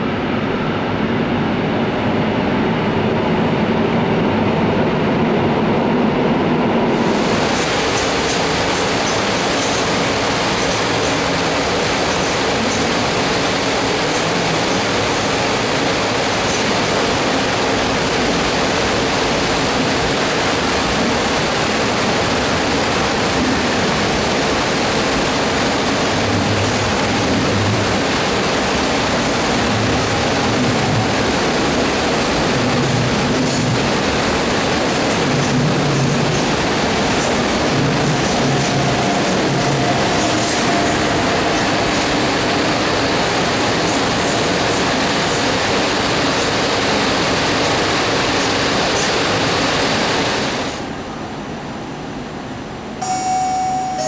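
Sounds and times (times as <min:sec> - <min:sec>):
train wheels rumbling: 0:00.0 - 0:51.0.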